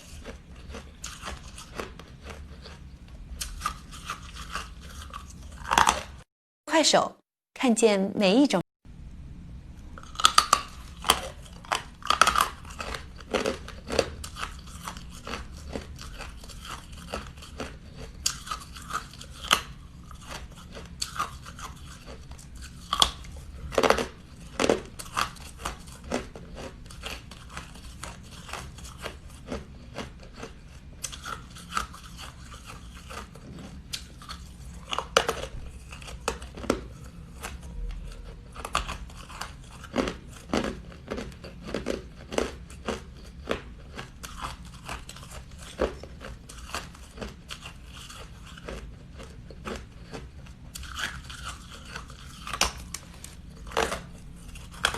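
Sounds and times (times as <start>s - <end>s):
ice being chewed: 0.0s - 6.3s, 10.0s - 54.9s.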